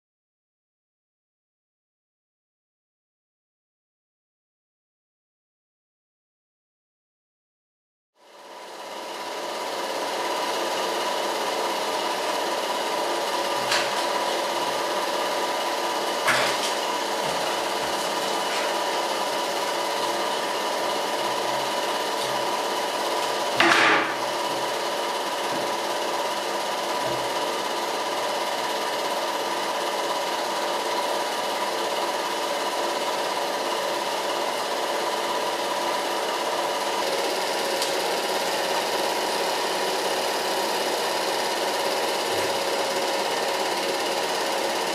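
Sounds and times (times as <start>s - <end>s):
film projectors whirring: 8.2s - 44.9s.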